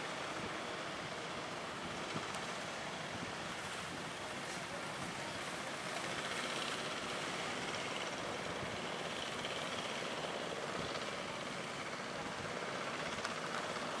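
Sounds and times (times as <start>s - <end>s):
boat motors running: 0.0s - 14.0s
wind: 0.0s - 14.0s.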